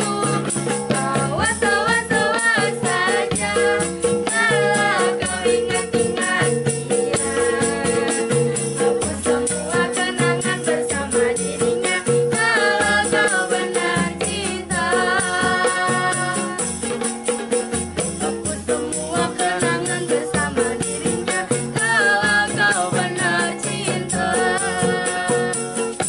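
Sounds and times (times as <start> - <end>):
young voices singing: 0.0 - 16.7, 18.1 - 26.0
hand-beaten drum: 0.0 - 26.0
tambourine jingling: 0.0 - 26.0.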